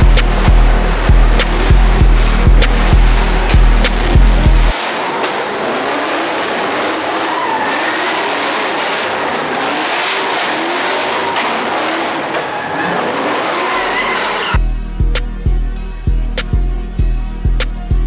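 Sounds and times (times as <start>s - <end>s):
car engine running hard: 0.0s - 18.0s
tyres skidding and squealing: 0.0s - 18.0s.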